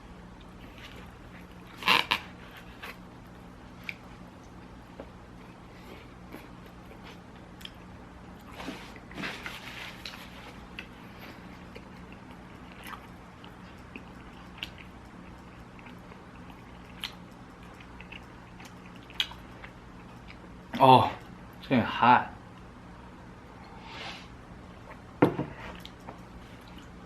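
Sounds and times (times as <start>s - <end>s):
low steady hum: 0.0s - 27.0s
person chewing food: 0.3s - 21.4s, 24.7s - 27.0s.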